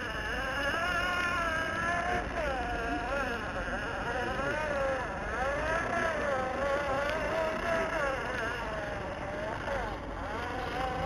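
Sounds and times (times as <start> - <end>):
toy truck electric motor whining: 0.0 - 11.0.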